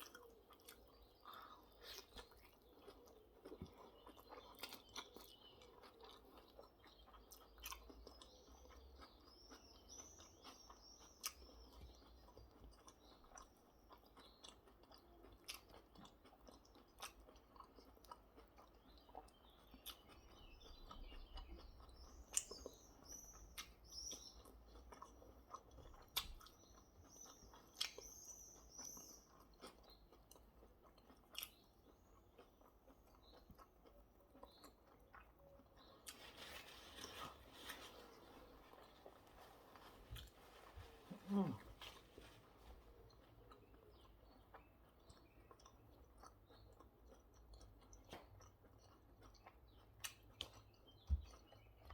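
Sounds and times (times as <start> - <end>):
mouth clicks and crunches: 0.0 - 51.9
person chewing food: 0.0 - 51.9.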